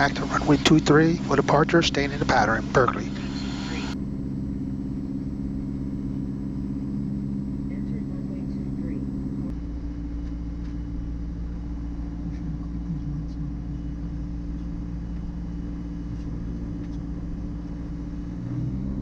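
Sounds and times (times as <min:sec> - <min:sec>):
aircraft engine running: 0:00.0 - 0:19.0.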